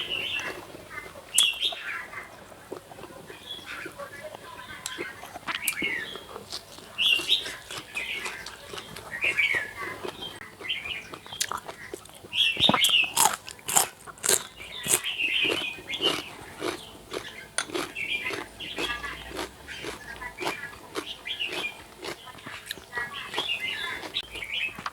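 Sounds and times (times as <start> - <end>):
person chewing crunchy food: 0.0 - 24.9.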